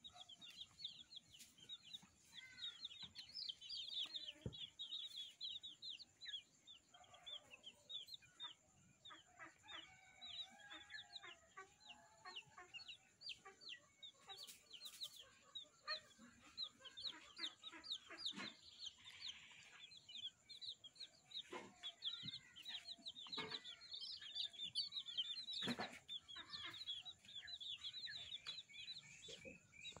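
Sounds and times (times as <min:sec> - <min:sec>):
baby chicks peeping: 0:00.0 - 0:30.0.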